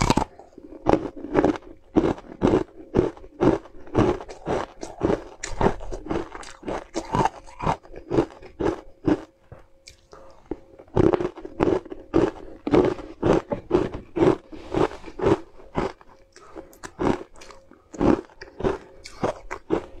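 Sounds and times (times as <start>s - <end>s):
crunching and chewing ice: 0.0s - 20.0s.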